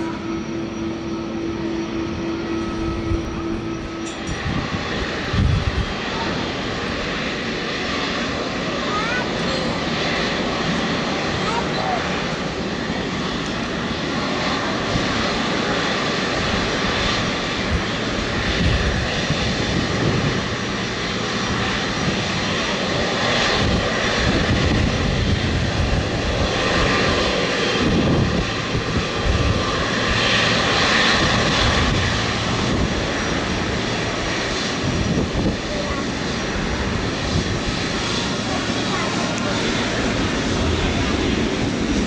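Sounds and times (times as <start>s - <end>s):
jet engines at taxi power: 0.0s - 42.0s.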